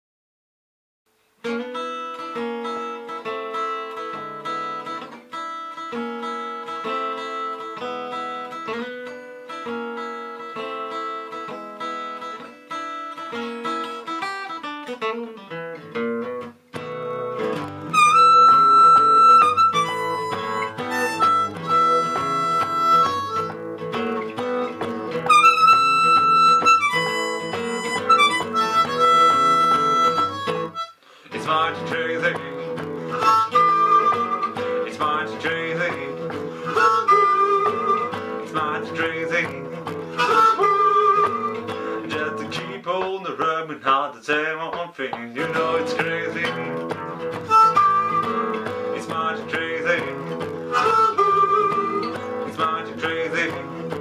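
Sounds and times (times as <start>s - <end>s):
acoustic guitar: 1.2s - 54.0s
harmonica: 2.6s - 14.8s, 16.8s - 42.6s, 45.6s - 54.0s.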